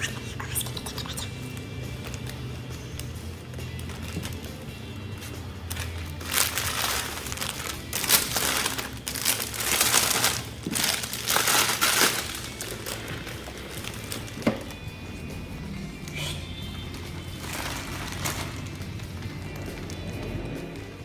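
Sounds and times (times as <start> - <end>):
plastic wrappers crinkling: 0.0 - 14.9, 16.0 - 20.5.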